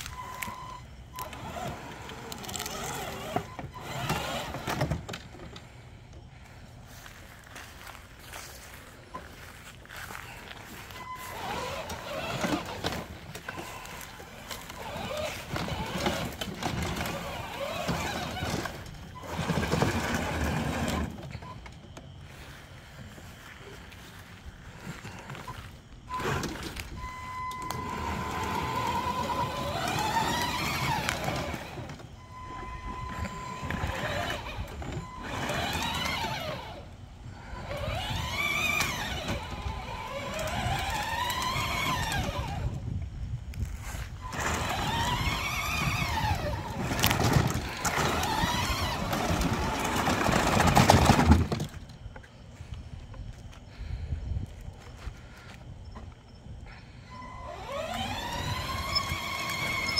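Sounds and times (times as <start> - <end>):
electric motors whining: 0.0 - 59.9
wheels rolling on concrete: 0.0 - 59.9.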